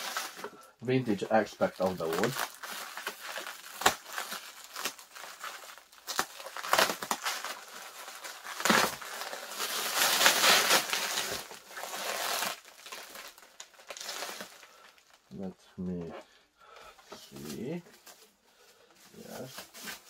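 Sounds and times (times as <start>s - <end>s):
bubble wrap crinkling: 0.0s - 15.5s, 19.1s - 20.0s.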